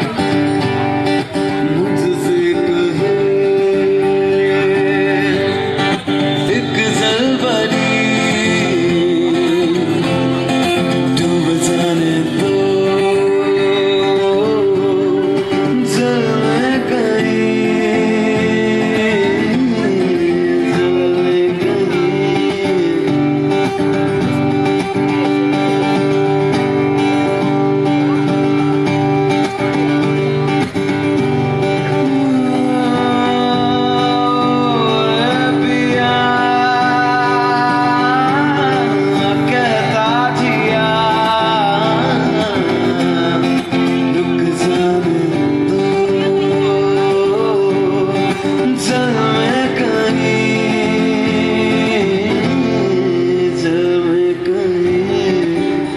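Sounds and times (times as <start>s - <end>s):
man singing into microphone: 0.0s - 28.5s, 31.4s - 55.9s
acoustic guitar chords: 0.0s - 55.9s.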